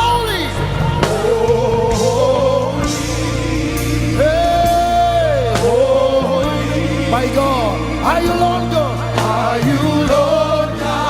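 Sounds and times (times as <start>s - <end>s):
instrumental backing: 0.0s - 11.0s
person singing gospel: 0.0s - 11.0s.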